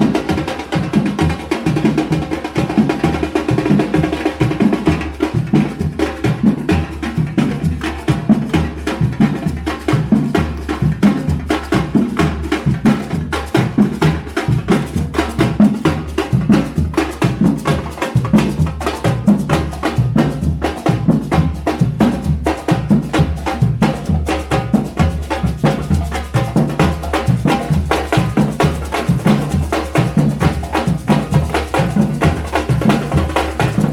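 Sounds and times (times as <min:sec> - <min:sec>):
fast drumming: 0:00.0 - 0:33.9.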